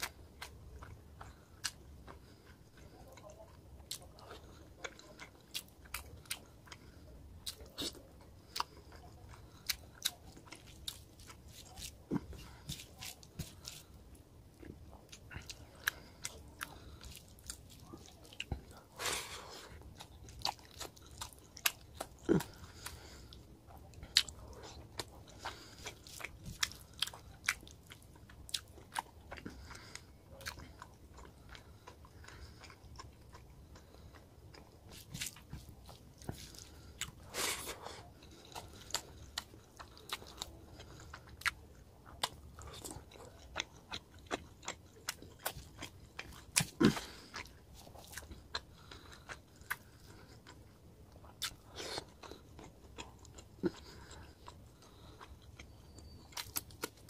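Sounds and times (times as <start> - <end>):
man chewing with lip smacks: 0.0 - 57.0.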